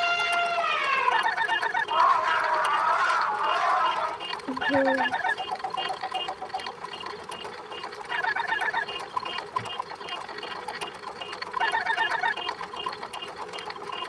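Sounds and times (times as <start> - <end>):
rhythmic chirps and clicks: 0.0 - 14.0.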